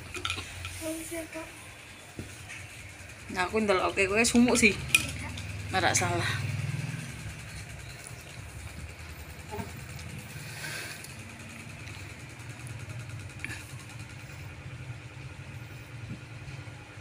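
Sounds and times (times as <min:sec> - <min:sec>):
fan air buffeting microphone: 0:00.0 - 0:17.0.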